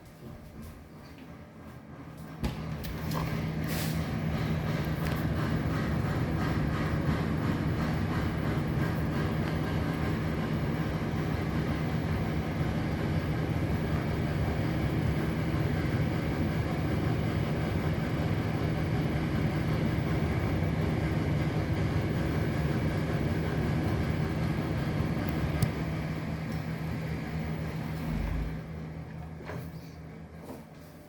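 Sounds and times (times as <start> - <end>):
constant hum: 0.0 - 31.0
low mechanical rumble: 0.0 - 31.0.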